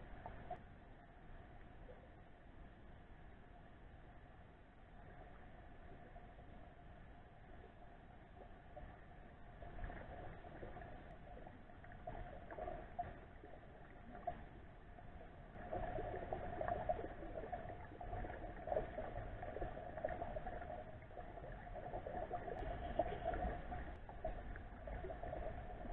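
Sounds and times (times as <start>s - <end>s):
muffled underwater river rumble: 0.0s - 25.9s.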